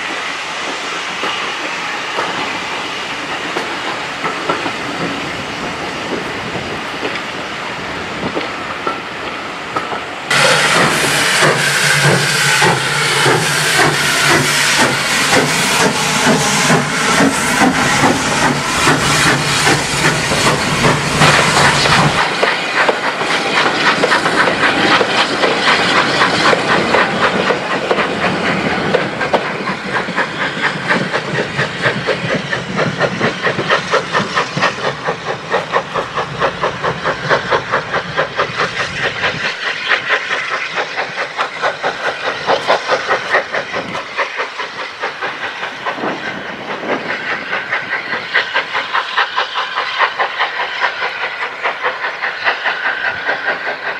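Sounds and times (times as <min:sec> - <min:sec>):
hiss of steam: 0:00.0 - 0:53.9
steam locomotive exhaust beat: 0:09.7 - 0:53.9.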